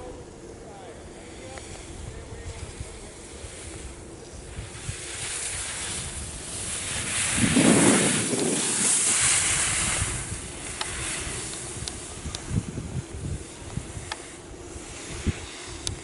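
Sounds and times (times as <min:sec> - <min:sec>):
wind on microphone: 0:00.0 - 0:16.0
skis scraping on snow: 0:00.6 - 0:16.0.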